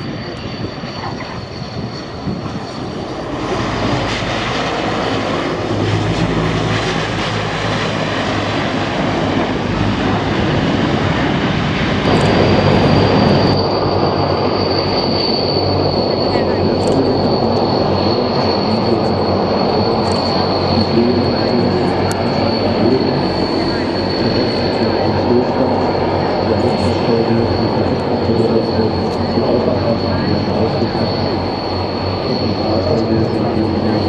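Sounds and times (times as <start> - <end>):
high whine: 0.0 - 34.0
turboprop engines running hard: 0.0 - 34.0.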